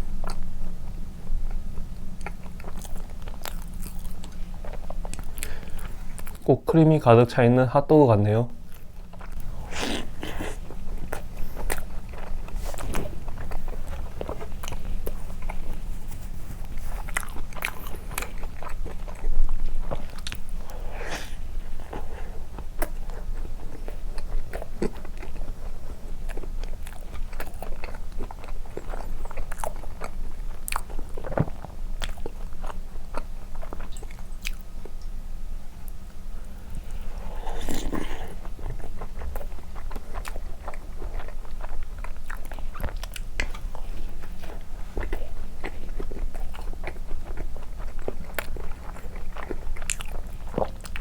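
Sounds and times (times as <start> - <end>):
biting and chewing soft bread: 0.0 - 6.5, 8.6 - 35.0, 35.8 - 51.0
steady low hum: 0.0 - 51.0.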